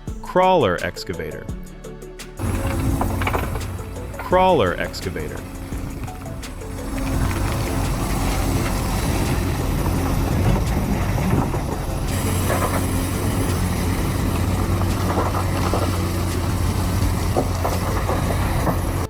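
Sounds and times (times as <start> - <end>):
excavator diesel engine drone: 2.4 - 19.0
metal clanks and knocks: 2.4 - 19.0.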